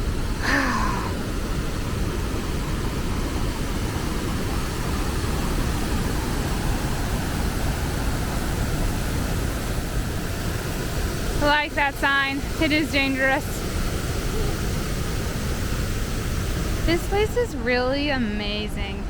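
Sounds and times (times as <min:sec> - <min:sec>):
river water rushing over rapids: 0:00.0 - 0:18.3.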